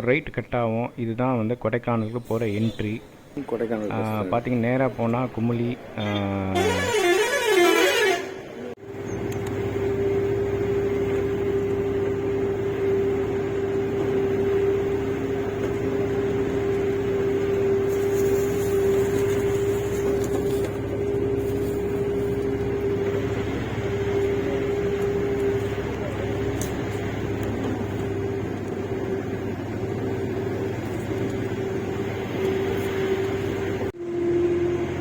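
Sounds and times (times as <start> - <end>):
bus engine hum and whine: 2.3 - 35.0.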